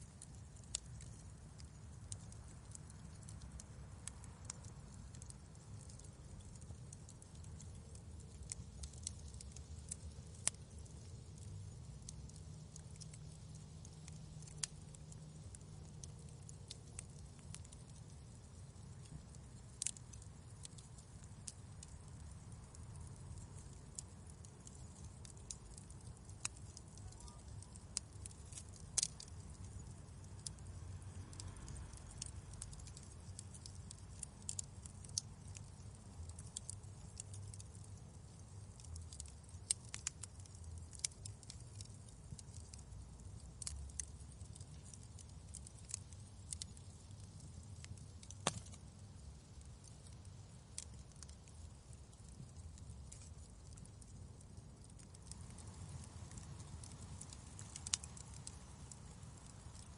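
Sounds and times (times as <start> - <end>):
low fire rumble: 0.0 - 59.9
wood fire popping and snapping: 0.0 - 59.9.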